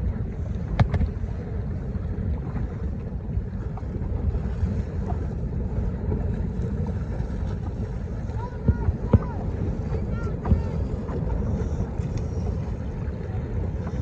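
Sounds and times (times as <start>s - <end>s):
water washing against boat: 0.0s - 14.0s
wind rumble on microphone: 0.0s - 14.0s.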